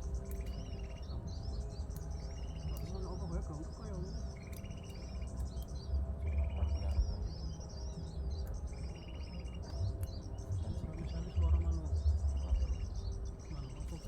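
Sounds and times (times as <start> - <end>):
high bird chirps: 0.0 - 14.0
songbird buzzy trills: 0.0 - 14.0.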